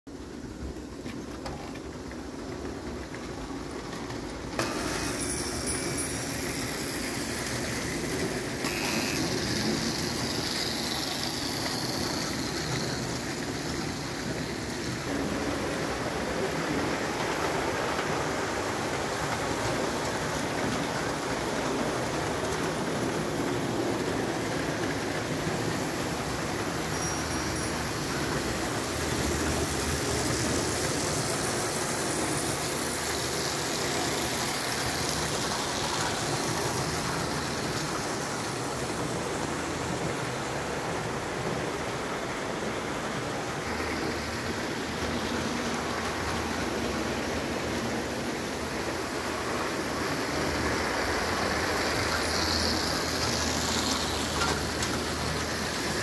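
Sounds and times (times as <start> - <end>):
toy train rolling on track: 0.1 - 56.0.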